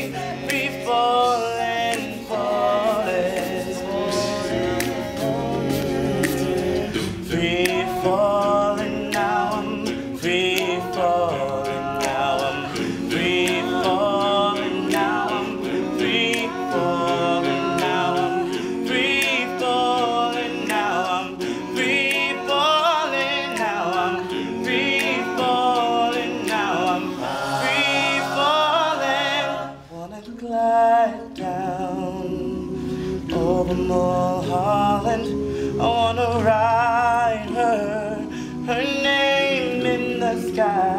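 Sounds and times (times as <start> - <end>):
male a cappella group singing: 0.0 - 40.9.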